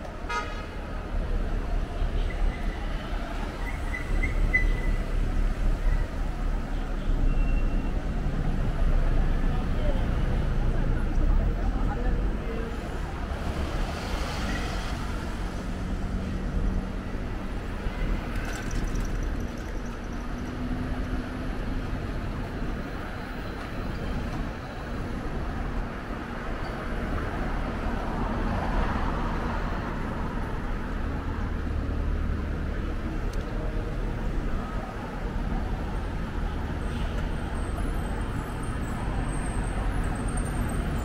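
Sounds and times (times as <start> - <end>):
vehicles passing: 7.9 - 41.0.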